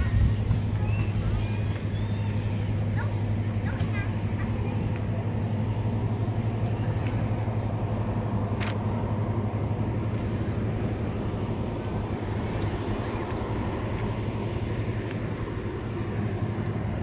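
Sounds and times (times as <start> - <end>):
low mechanical hum: 0.0 - 17.0
outdoor background noise: 0.0 - 17.0.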